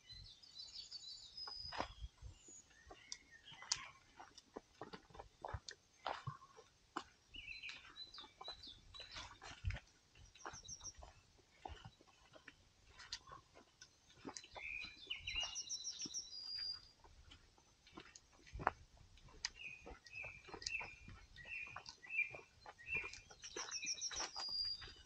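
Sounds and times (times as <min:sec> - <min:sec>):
songbird singing: 0:00.0 - 0:25.0
footsteps on leafy dirt track: 0:00.1 - 0:25.0.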